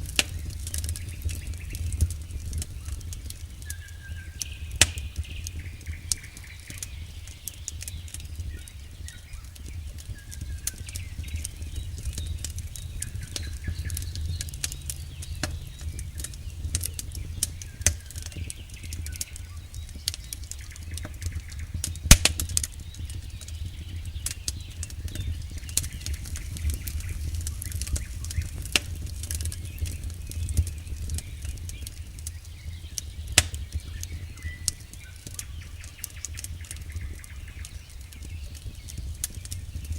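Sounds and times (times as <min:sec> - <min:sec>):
campfire crackling: 0:00.0 - 0:39.9
sharp pops from burning logs: 0:00.0 - 0:39.9
steady low rumble: 0:00.0 - 0:39.9.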